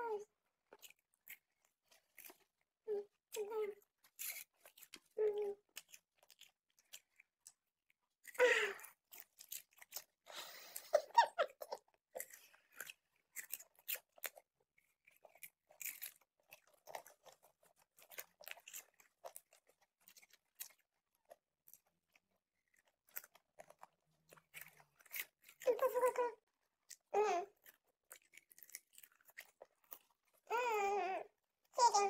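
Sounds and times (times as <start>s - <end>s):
popcorn being chewed: 0.1s - 32.0s.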